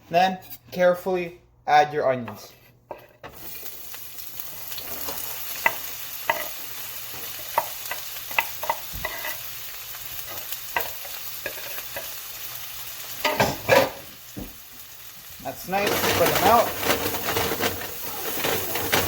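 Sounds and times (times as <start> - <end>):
onions sizzling in frying pan: 3.0 - 19.0.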